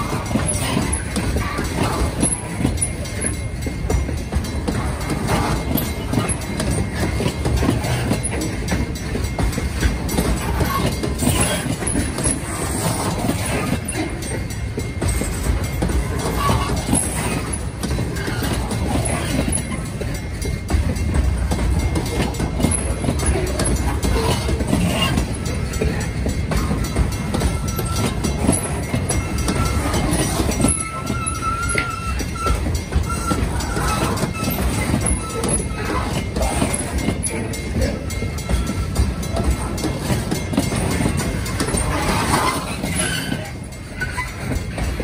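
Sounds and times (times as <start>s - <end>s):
train wheels rumbling on rails: 0.0s - 45.0s
wheels clacking over rail joints: 0.0s - 45.0s.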